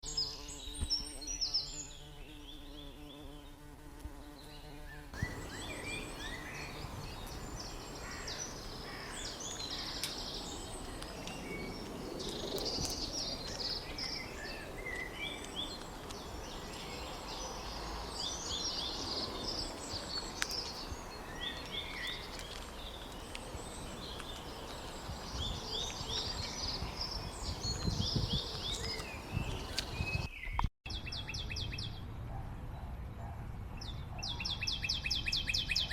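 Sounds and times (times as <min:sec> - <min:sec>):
small birds chirping: 0:00.0 - 0:32.4, 0:33.2 - 0:35.9.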